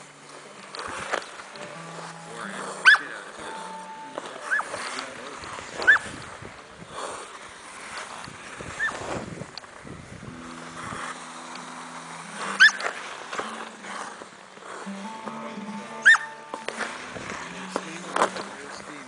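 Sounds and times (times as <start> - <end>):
lake ice chirping: 0.0 - 6.3, 6.9 - 9.2, 10.6 - 19.0
skate blades scraping ice: 0.0 - 19.0.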